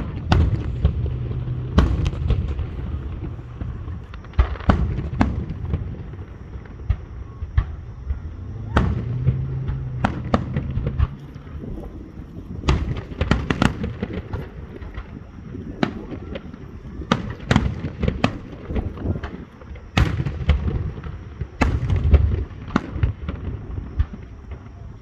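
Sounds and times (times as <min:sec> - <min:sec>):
deep fireworks booms: 0:00.0 - 0:25.0
fireworks bangs and crackles: 0:00.0 - 0:25.0.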